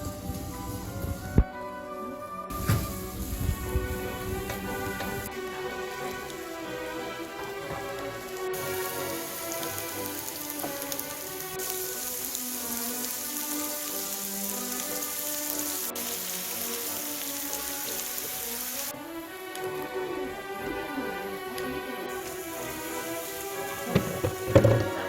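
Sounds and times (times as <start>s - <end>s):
background music: 0.0s - 25.0s
meat sizzling: 2.5s - 20.0s, 20.8s - 25.0s.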